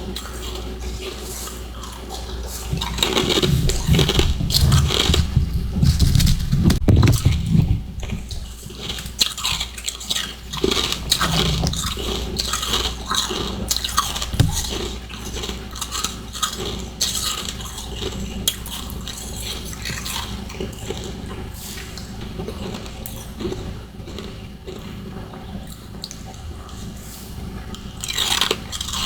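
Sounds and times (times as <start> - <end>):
chewing crunchy ice: 0.0 - 6.4, 7.0 - 26.9, 27.7 - 29.0.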